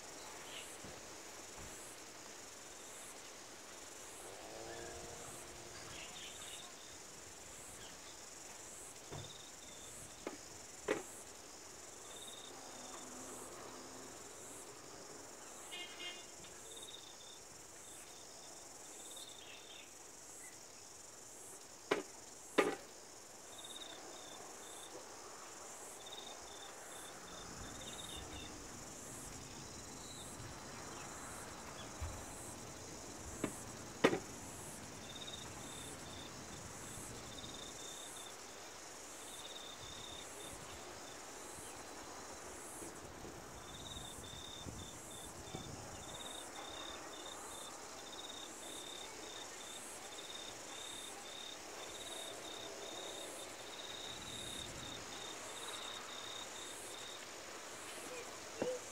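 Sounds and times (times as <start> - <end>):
faint background hiss: 0.0 - 58.9
insects chirping: 0.0 - 58.9.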